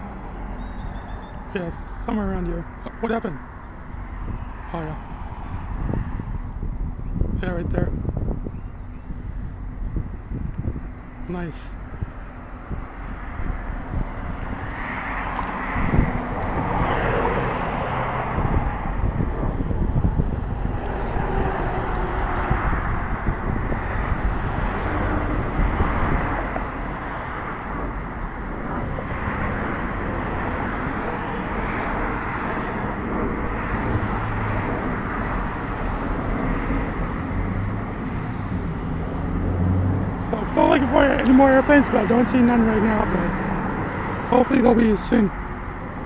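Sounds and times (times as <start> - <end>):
jet engines taking off: 0.0 - 46.0.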